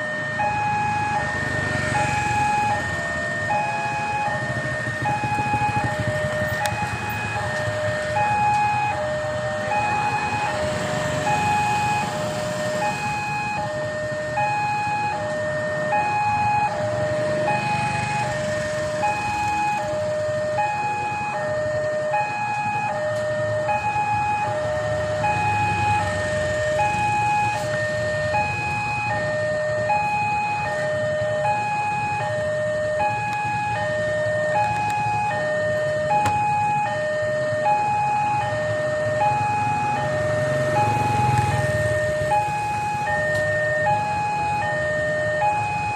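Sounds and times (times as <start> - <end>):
idling traffic engines rumble: 0.0 - 45.9.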